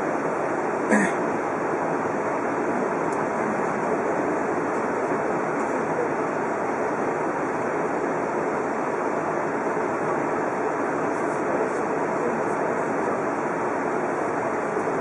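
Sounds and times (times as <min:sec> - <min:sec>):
electric train running noise: 0:00.0 - 0:15.0.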